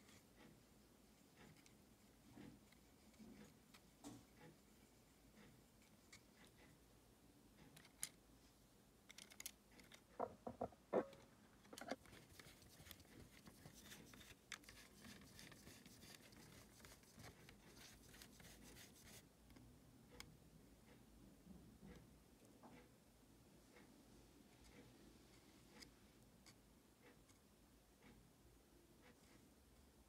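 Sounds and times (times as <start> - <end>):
faint clicks of small parts: 0.0 - 6.9, 7.5 - 10.2, 11.0 - 21.0, 24.5 - 28.2, 29.0 - 30.0.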